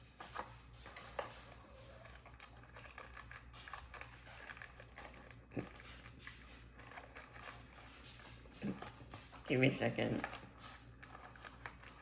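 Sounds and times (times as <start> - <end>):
cookie packet crinkling: 0.0 - 12.0.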